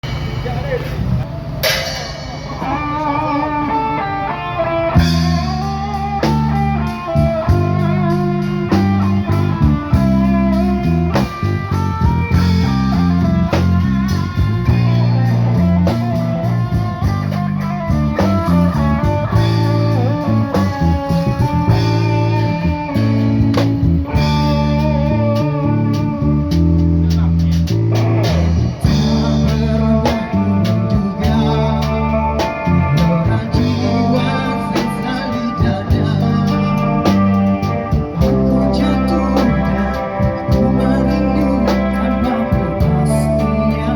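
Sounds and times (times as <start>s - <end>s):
bass line: 0.0s - 43.9s
guitar melody: 1.0s - 43.9s.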